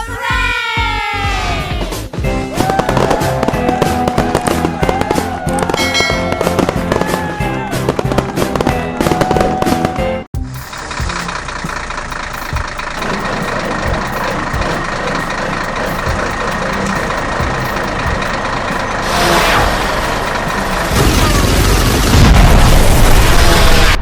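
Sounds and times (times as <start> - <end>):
heavy vehicle engine running: 2.3 - 24.0.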